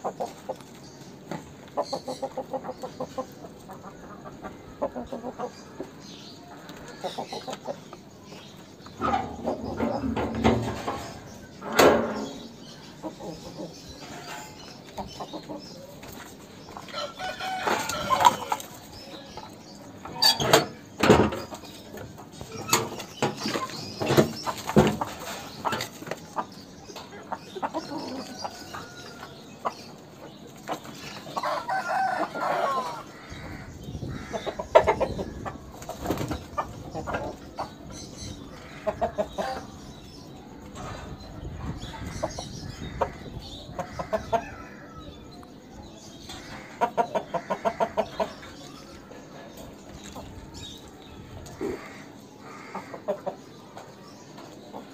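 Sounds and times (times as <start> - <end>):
roosters clucking and crowing: 0.0 - 54.9.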